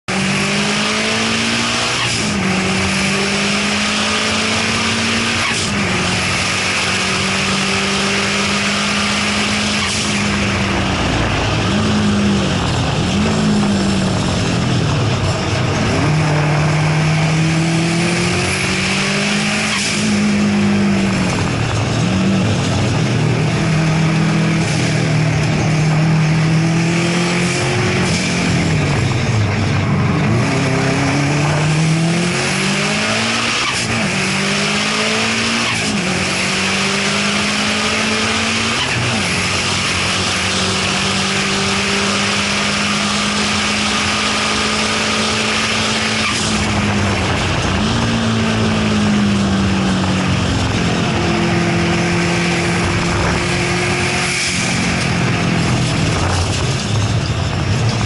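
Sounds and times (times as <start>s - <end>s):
turbocharged car engine running hard: 0.0s - 58.0s.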